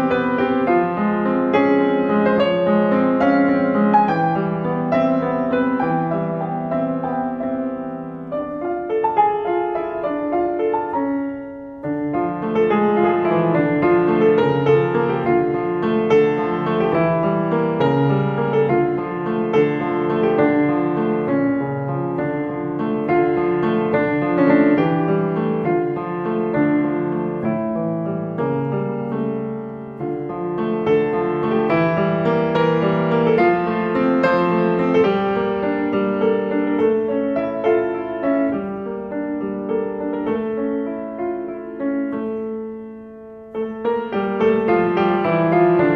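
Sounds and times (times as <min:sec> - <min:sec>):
background piano music: 0:00.0 - 0:45.9.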